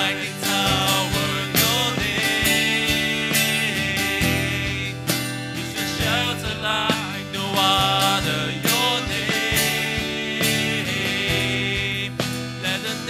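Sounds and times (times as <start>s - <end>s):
man singing into microphone: 0.0s - 13.0s
worship band playing: 0.0s - 13.0s.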